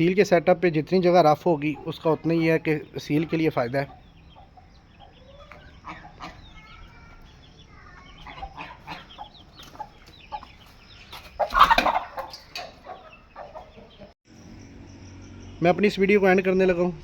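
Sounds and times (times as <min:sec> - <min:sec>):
chickens clucking: 0:00.0 - 0:14.2
chicks peeping: 0:00.1 - 0:16.0.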